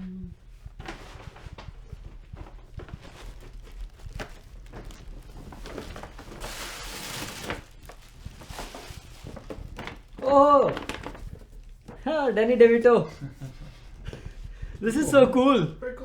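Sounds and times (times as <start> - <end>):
gift wrapping rustling: 0.4 - 15.8.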